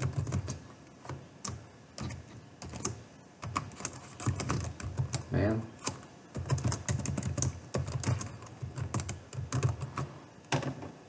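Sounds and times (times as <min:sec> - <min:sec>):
computer keyboard typing: 0:00.0 - 0:10.2.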